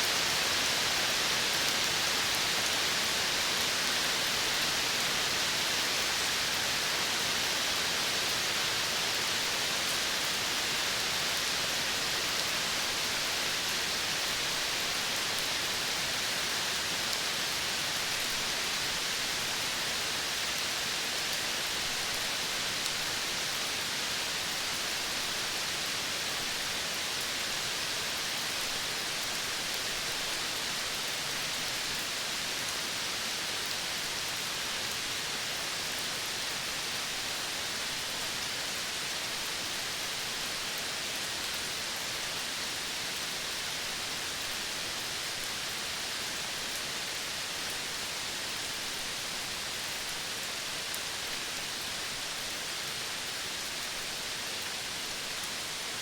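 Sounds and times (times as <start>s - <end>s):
outdoor ambient hiss: 0.0s - 56.0s.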